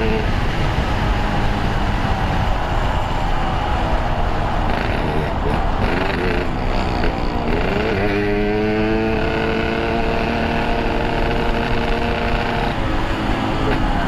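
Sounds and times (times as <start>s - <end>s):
two-stroke motorcycle engine revving: 0.0s - 3.4s, 4.0s - 14.0s.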